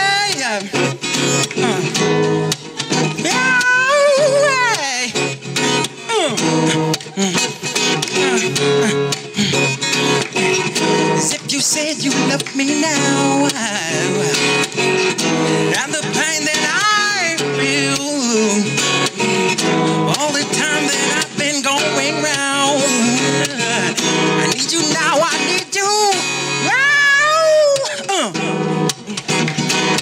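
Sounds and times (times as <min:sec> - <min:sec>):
man singing into a microphone: 0:00.0 - 0:02.2, 0:02.9 - 0:05.4, 0:06.0 - 0:09.8, 0:10.9 - 0:29.2
acoustic guitar strumming: 0:00.0 - 0:30.0.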